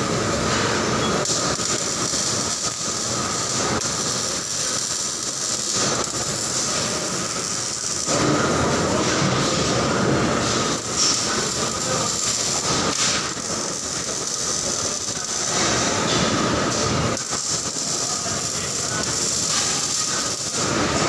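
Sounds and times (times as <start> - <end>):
arc welding hiss: 0.0 - 21.0
factory machinery noise: 0.0 - 21.0.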